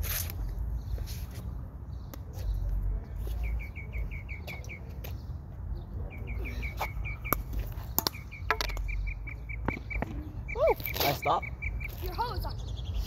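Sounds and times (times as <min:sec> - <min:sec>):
small bird chirping: 0:01.9 - 0:13.0.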